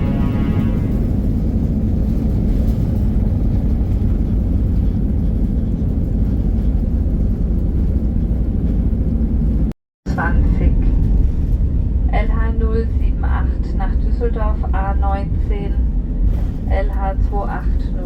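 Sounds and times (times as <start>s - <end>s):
airliner engines and airflow rumble: 0.0s - 18.0s.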